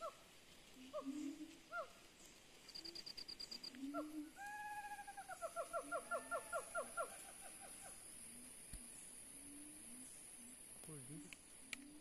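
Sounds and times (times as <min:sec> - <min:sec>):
forest birds calling: 0:00.0 - 0:12.0.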